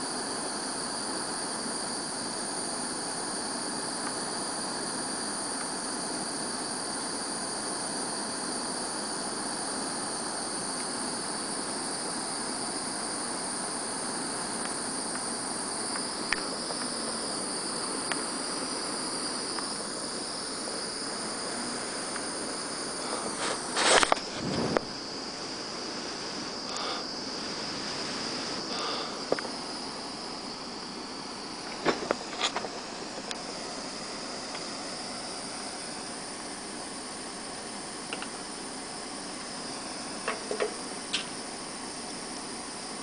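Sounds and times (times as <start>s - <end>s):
gas torch hissing: 0.0s - 43.0s.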